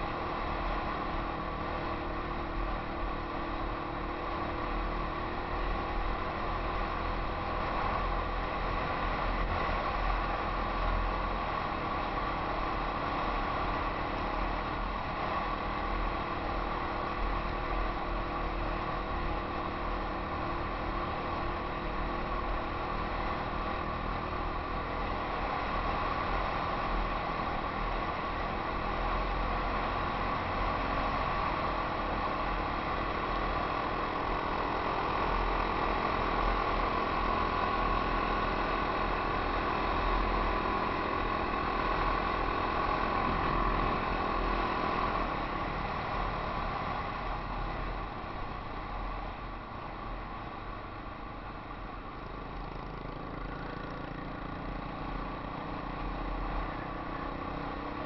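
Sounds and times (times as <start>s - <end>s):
motorcycle engine running steadily: 0.0s - 58.0s.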